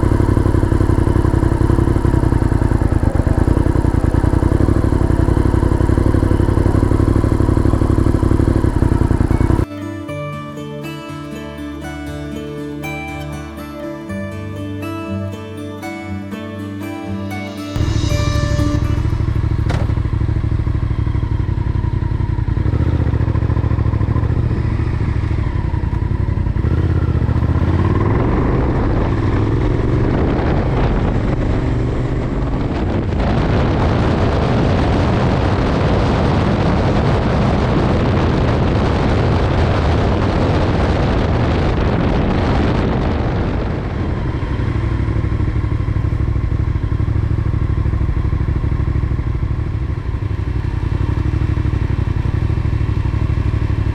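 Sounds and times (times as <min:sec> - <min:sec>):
motorcycle engine running: 0:00.0 - 0:09.7, 0:17.5 - 0:53.9
wind and road noise: 0:00.0 - 0:09.7, 0:17.7 - 0:53.9.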